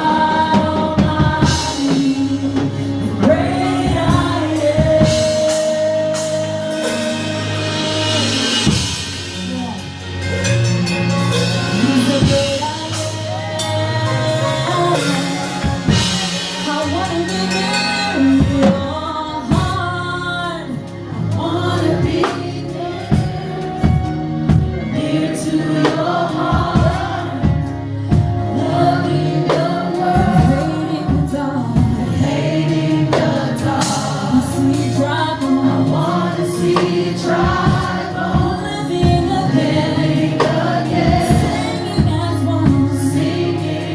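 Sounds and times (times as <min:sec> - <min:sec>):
choir singing: 0:00.0 - 0:09.3, 0:11.3 - 0:43.9
bass: 0:00.0 - 0:43.9
keyboard: 0:00.0 - 0:43.9.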